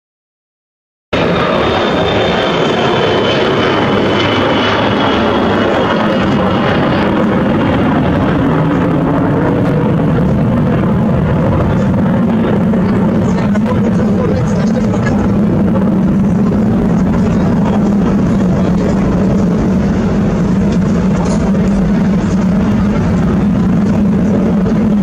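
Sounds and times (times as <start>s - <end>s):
jet aircraft roaring past: 1.1s - 25.0s.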